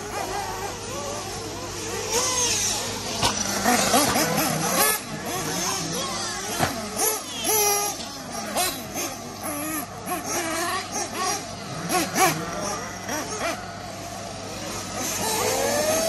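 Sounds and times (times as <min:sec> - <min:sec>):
rc buggy engines revving: 0:00.0 - 0:16.0.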